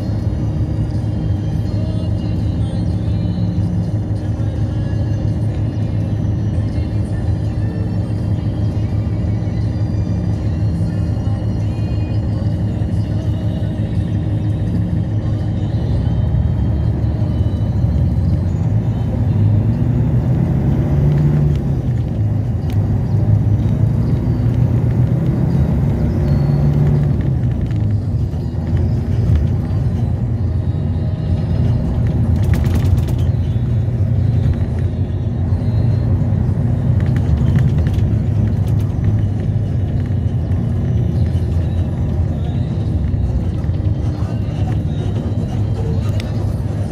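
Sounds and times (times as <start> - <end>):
bus engine and road rumble: 0.0 - 46.9.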